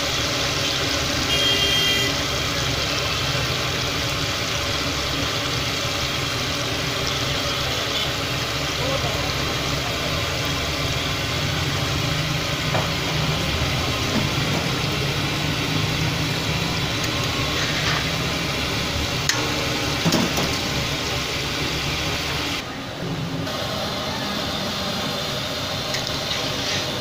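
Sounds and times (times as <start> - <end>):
chicken deep-frying in oil: 0.0 - 22.8, 23.4 - 27.0.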